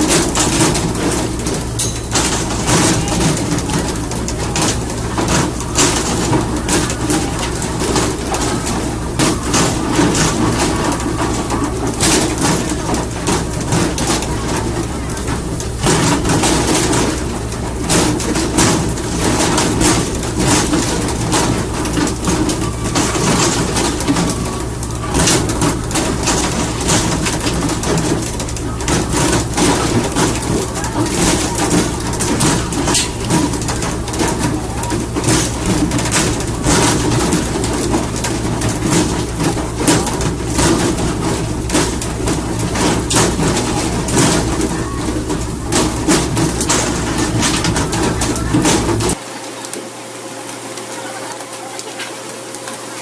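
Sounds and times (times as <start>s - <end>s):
boat engine droning: 0.0s - 49.2s.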